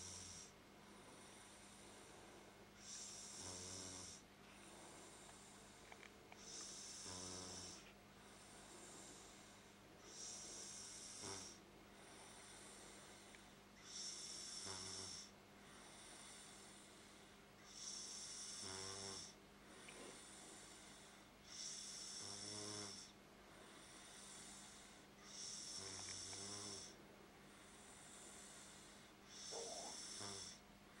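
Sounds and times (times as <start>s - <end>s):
quiet snoring: 0.0s - 31.0s.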